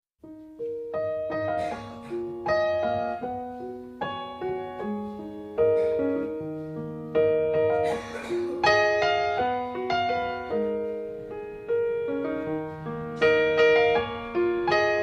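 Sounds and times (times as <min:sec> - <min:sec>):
solo piano playing slowly: 0:00.2 - 0:15.0.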